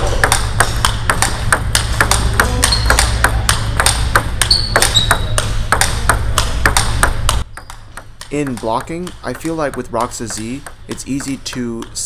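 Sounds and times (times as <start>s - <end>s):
distant table tennis hits: 0.0s - 12.0s
table tennis ball clicks: 0.1s - 12.0s.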